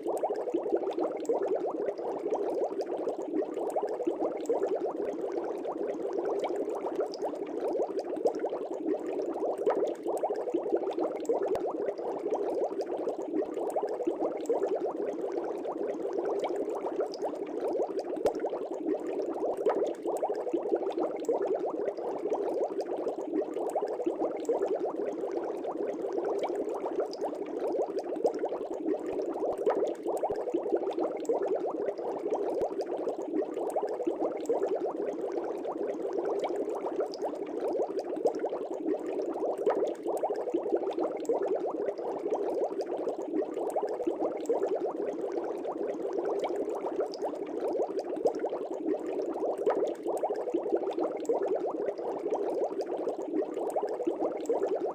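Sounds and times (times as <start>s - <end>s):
aquarium air bubbles bubbling: 0.0s - 54.9s.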